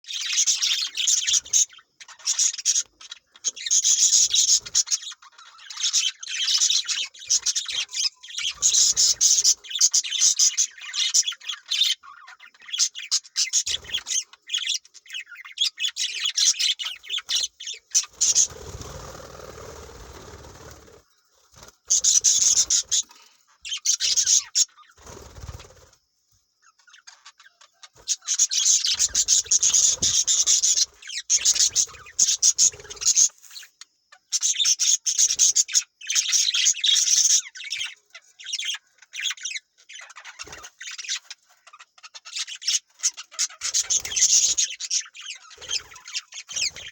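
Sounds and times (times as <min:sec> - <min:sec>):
parrots chirping and chattering: 0:00.0 - 0:26.0, 0:26.6 - 0:46.9.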